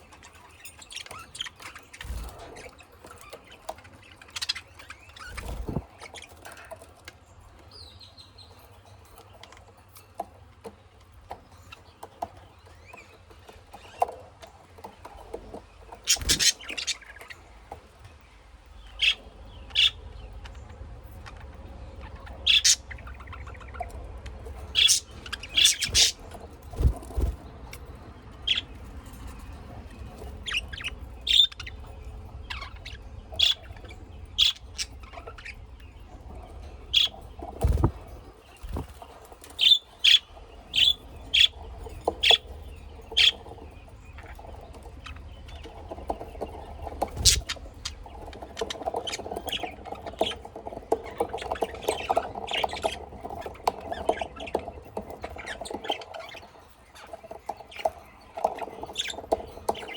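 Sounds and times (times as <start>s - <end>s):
pet birds chirping: 0.0s - 59.9s.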